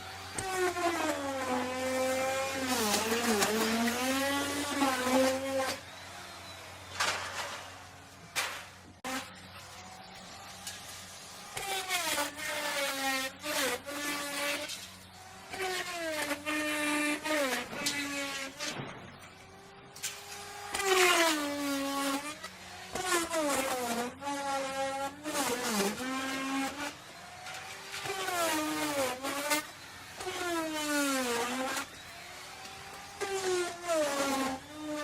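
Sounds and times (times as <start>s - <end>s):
electric router cutting wood: 0.0s - 35.0s.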